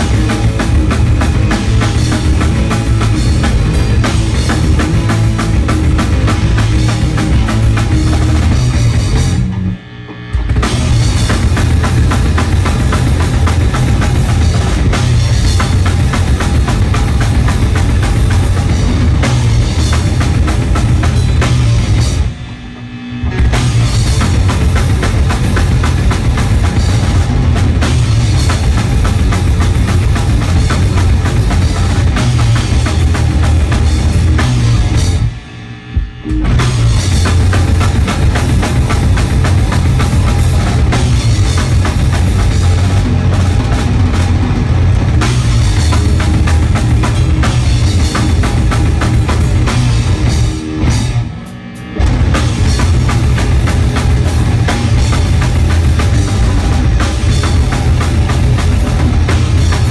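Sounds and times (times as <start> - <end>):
heavy bass drum: 0.0 - 59.9
heavy rock band playing: 0.0 - 59.9.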